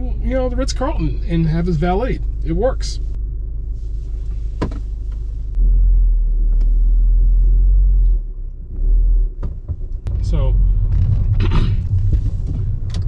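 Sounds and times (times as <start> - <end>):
car engine inside cabin: 0.0 - 13.0
road noise: 0.0 - 13.0.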